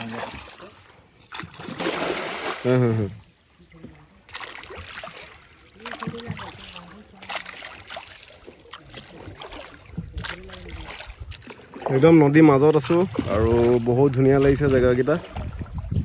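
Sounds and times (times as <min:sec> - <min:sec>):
oar splashing and knocking: 0:00.0 - 0:16.0
running water: 0:00.0 - 0:16.0.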